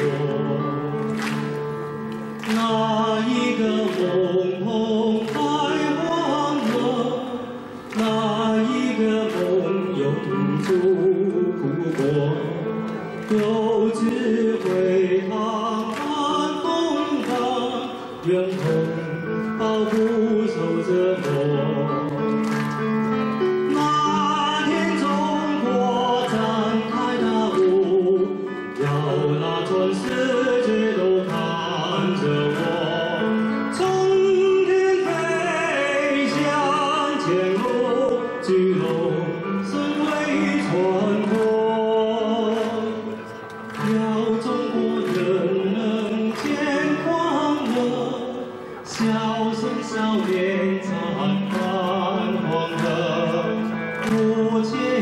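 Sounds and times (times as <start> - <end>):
instrumental accompaniment: 0.0 - 55.0
man singing through speakers: 0.0 - 55.0.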